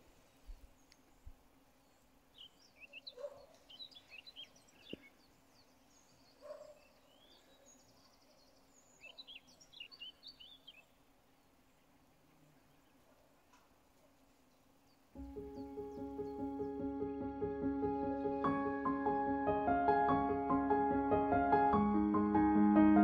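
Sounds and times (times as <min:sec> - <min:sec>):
songbird chirping: 0:00.0 - 0:20.4.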